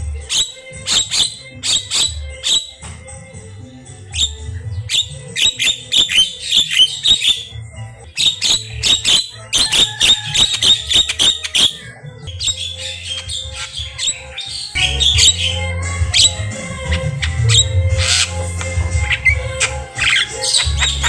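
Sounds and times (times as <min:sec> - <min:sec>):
low background music: 0:00.0 - 0:21.0
bird chattering calls: 0:00.2 - 0:02.9, 0:04.1 - 0:21.0.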